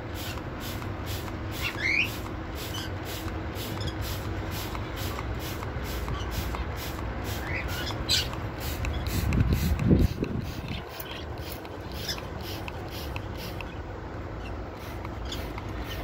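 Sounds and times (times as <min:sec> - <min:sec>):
steady low rumble: 0:02.2 - 0:16.0.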